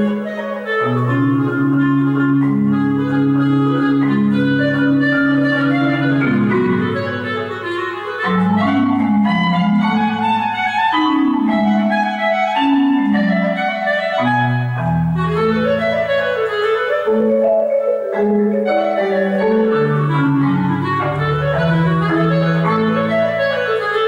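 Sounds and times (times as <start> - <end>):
clarinet: 0.0 - 24.0
marimba: 0.0 - 24.0.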